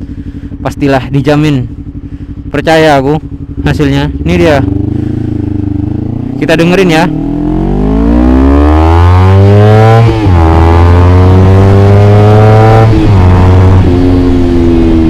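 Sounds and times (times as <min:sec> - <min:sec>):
motorcycle accelerating: 0:00.0 - 0:15.0.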